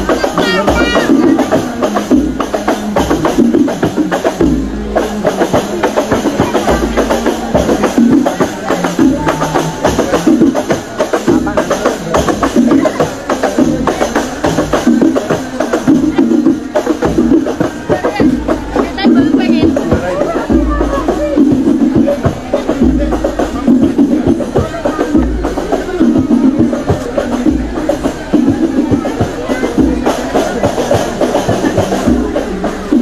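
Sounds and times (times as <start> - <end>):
deep bass-drum thump: 0.0 - 33.0
dense drum strokes: 0.0 - 33.0.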